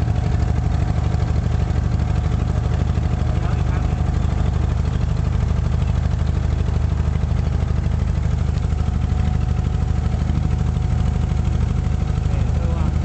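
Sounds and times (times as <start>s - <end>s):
boat diesel engine droning: 0.0s - 13.0s.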